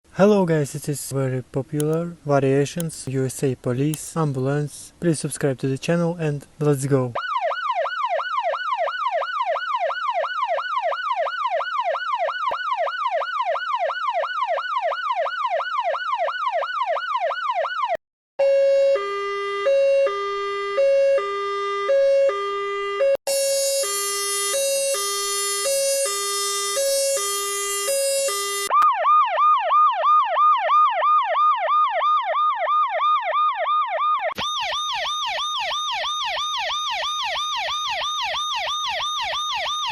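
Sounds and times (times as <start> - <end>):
siren wail: 7.2 - 39.9
siren yelp: 7.2 - 39.9
two-tone hi-lo siren: 7.2 - 39.9
shrill high siren tone: 7.3 - 39.9.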